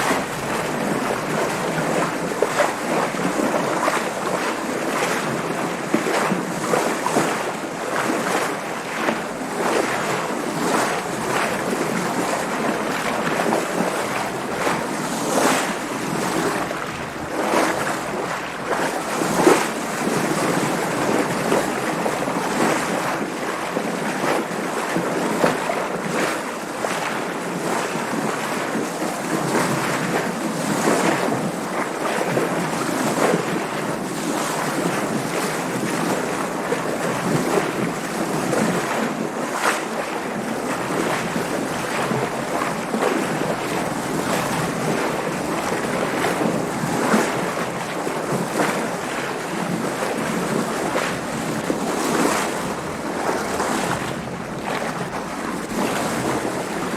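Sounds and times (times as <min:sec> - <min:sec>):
water splashing against boat hull: 0:00.0 - 0:56.9
wind: 0:00.0 - 0:56.9.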